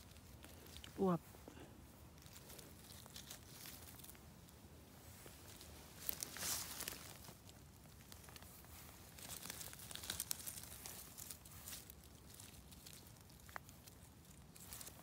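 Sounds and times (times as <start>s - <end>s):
hand rustling through dry leaves: 0.0s - 15.0s.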